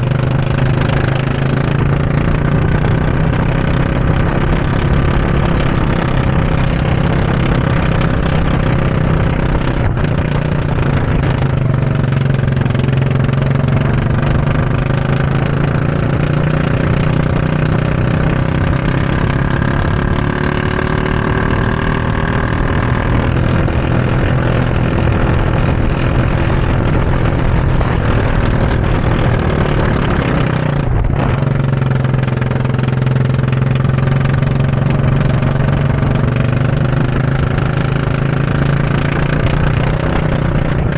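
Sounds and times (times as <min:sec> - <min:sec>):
go-kart engine revving: 0:00.0 - 0:40.9.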